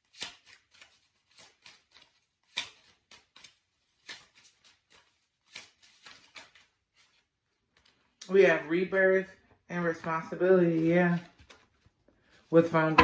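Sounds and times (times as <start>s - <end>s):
cards being shuffled: 0.0s - 8.2s, 10.6s - 13.0s.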